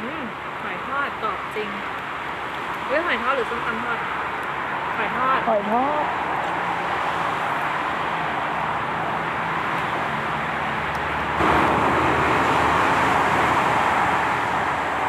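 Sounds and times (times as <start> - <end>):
outdoor ambient noise: 0.0 - 15.0.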